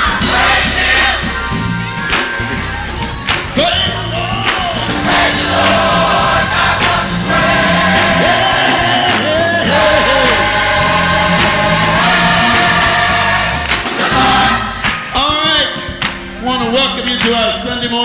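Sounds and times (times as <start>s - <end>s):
band with bass and drums: 0.0s - 18.0s
gospel choir singing: 0.0s - 18.0s.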